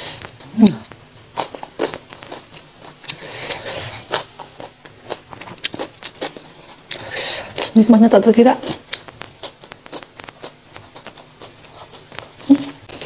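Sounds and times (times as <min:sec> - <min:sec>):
person chewing crunchy raw greens: 0:00.0 - 0:07.8, 0:08.6 - 0:13.0.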